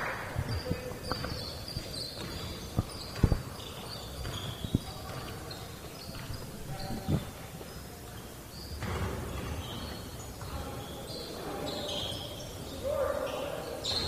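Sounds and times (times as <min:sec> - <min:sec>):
sneaker squeaks: 0:00.0 - 0:14.0.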